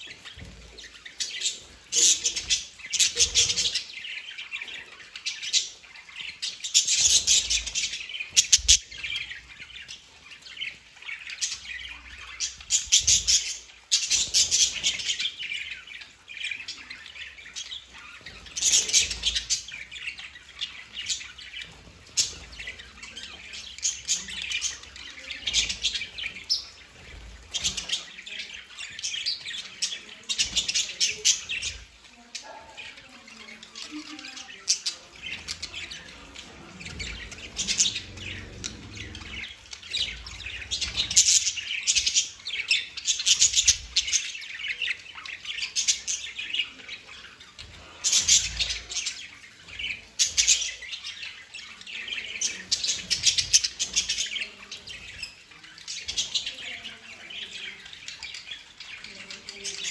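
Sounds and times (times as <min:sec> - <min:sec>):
budgerigars chirping: 0:00.0 - 0:59.9.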